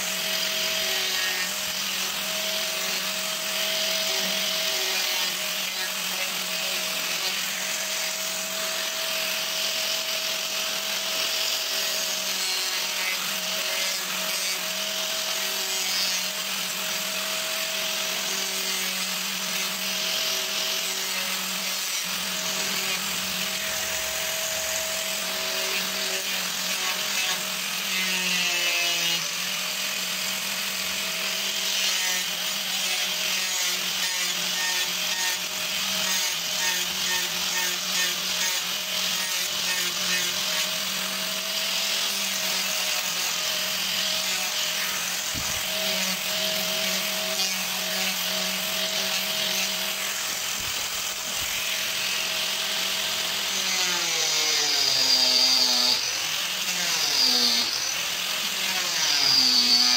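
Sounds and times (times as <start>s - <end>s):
angle grinder grinding wood: 0.0s - 59.9s.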